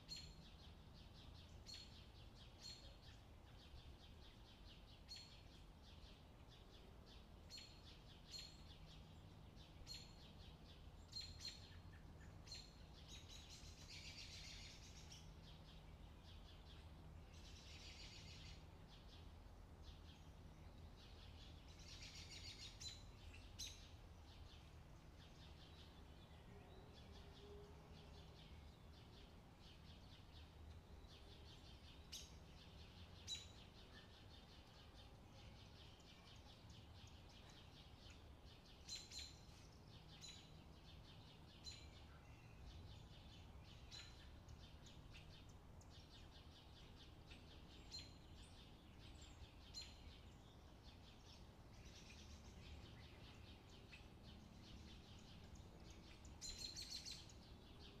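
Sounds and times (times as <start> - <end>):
faint bird chirping: 0.0 - 58.0
low steady hum: 0.0 - 58.0.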